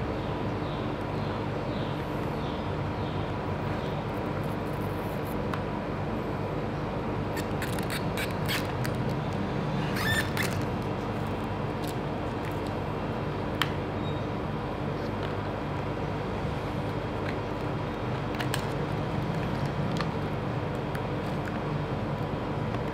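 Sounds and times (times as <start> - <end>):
steady background hum: 0.0 - 22.9.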